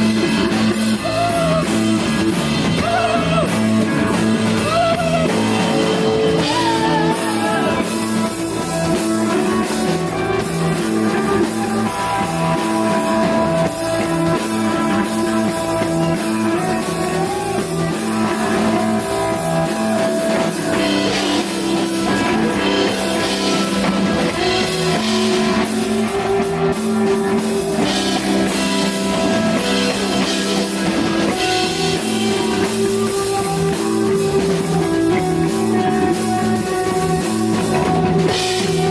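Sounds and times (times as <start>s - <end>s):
drum kit: 0.0s - 38.9s
electric guitar sustained notes: 3.7s - 38.9s.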